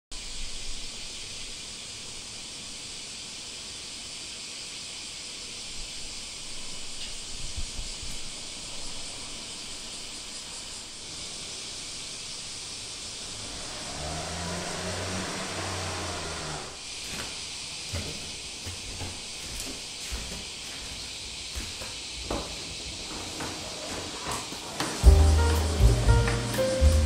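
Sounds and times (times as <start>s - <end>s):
background hiss: 0.2s - 27.0s.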